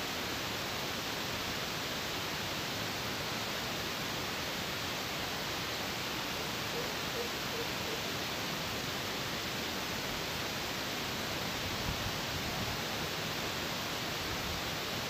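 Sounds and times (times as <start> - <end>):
broth boiling with hiss: 0.0 - 15.0.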